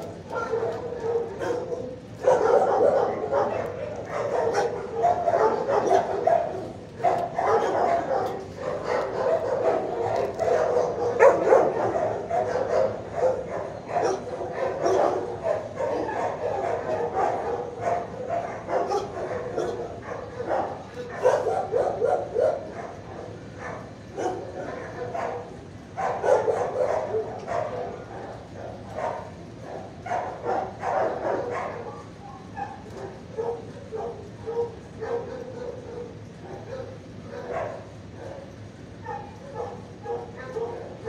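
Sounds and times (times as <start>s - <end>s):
dogs barking and yipping: 0.0s - 41.0s.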